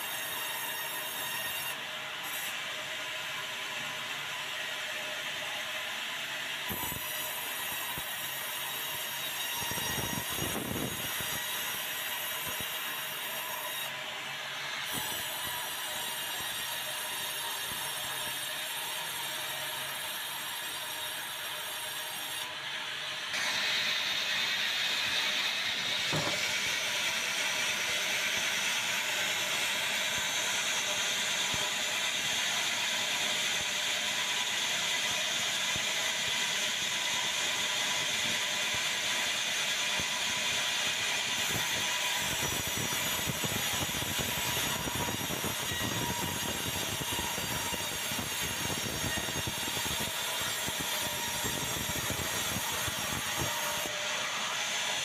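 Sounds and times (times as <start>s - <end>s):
band saw whining: 6.7s - 55.0s.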